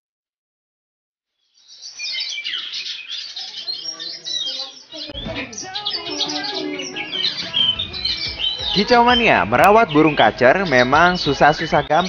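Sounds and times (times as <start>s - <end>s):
bird singing chirps and whistles: 1.5s - 12.0s.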